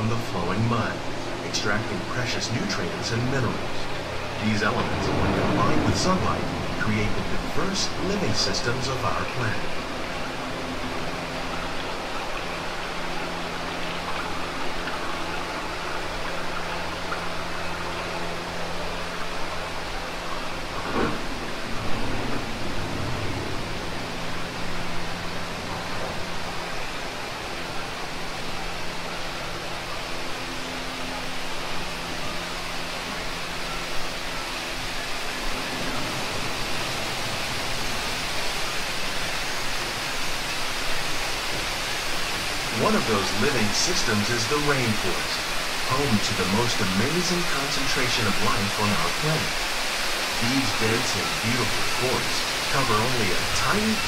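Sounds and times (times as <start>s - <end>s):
low hum: 0.0s - 54.0s
rushing water: 0.0s - 54.0s.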